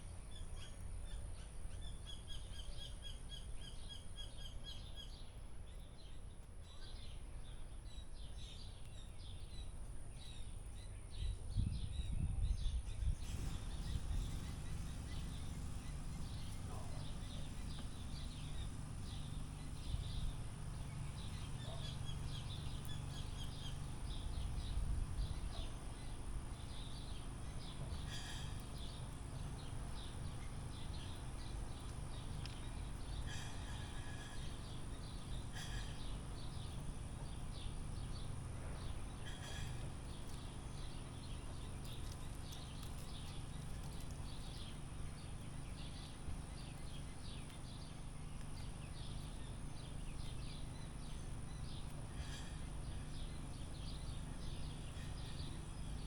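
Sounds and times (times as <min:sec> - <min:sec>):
low outdoor rumble: 0:00.0 - 0:56.0
small birds chirping: 0:00.0 - 0:56.0.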